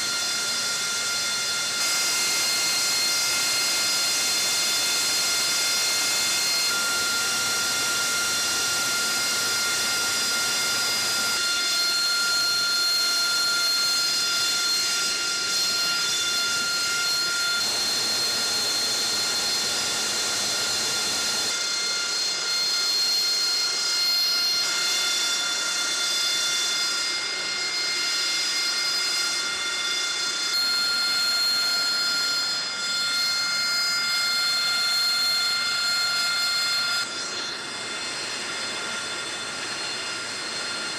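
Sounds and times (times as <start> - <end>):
jet engine whine and hiss: 0.0 - 40.9.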